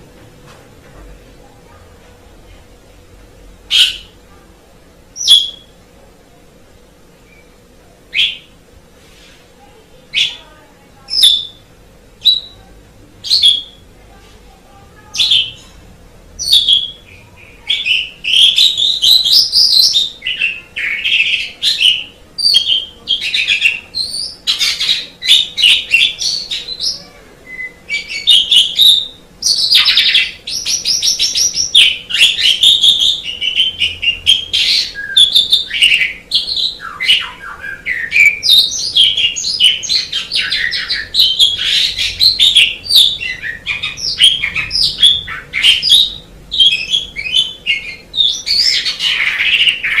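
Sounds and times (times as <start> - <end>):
starling singing: 3.6 - 4.3, 5.2 - 5.8, 7.2 - 8.6, 10.1 - 14.0, 14.9 - 50.0.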